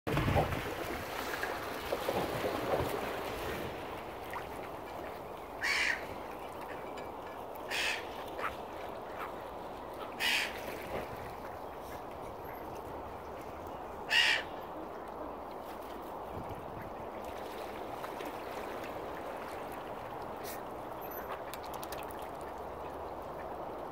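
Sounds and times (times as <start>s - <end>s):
harsh water bird calls: 1.1s - 23.9s.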